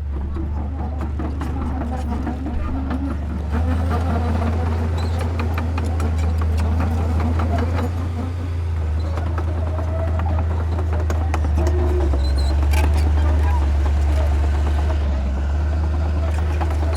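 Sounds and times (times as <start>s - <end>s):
clanks and rattles: 0.0s - 16.9s
diesel construction machinery droning: 0.0s - 16.9s.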